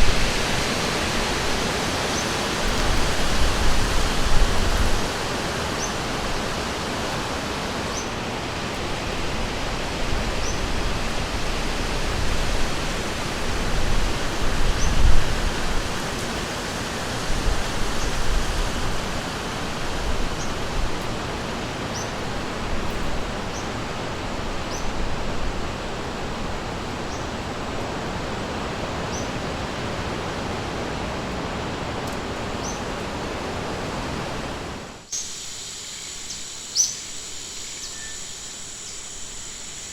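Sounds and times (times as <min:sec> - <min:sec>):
river water rushing: 0:00.0 - 0:35.1.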